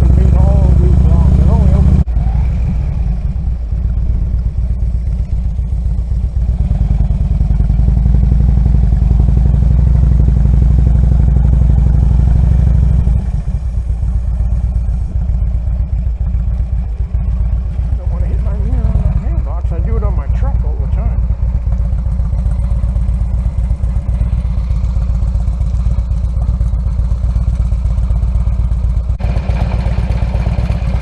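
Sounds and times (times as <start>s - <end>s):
motorcycle engine pulsing: 0.0s - 31.0s.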